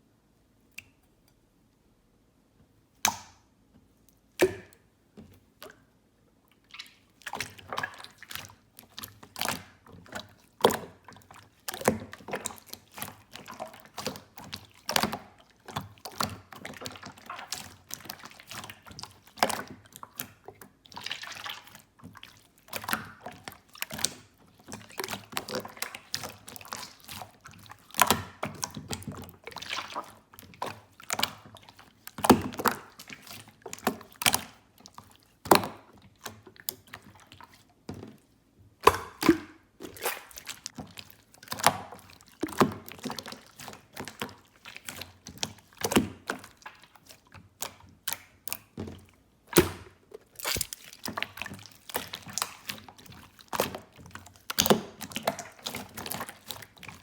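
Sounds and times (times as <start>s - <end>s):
slime squelching by hand: 6.5s - 57.0s.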